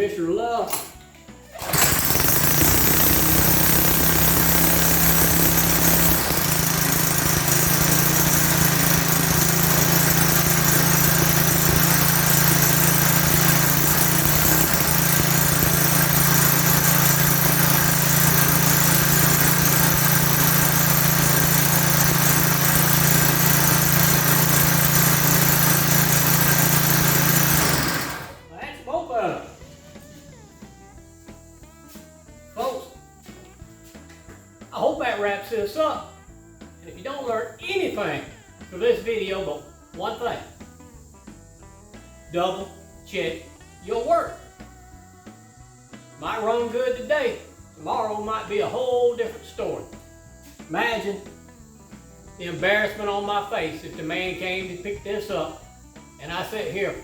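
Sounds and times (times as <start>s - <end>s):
small engine running: 0.7s - 28.6s, 29.2s - 57.0s.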